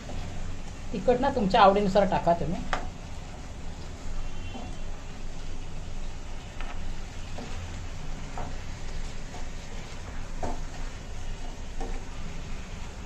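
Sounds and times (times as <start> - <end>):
food frying in a pan: 0.0 - 13.0.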